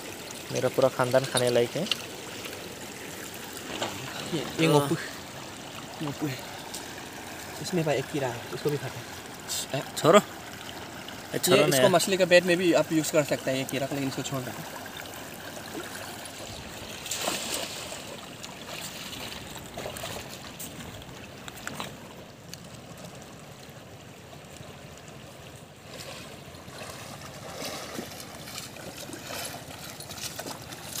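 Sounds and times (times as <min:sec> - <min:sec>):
light water splashes: 0:00.0 - 0:31.0
shallow water rushing over stones: 0:00.0 - 0:31.0.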